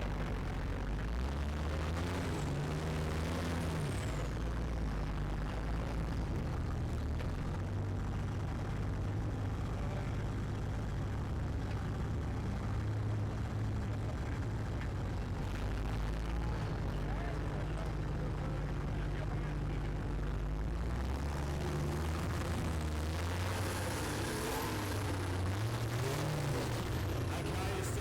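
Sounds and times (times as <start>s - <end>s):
truck engine rumbling at low revs: 0.0s - 28.0s.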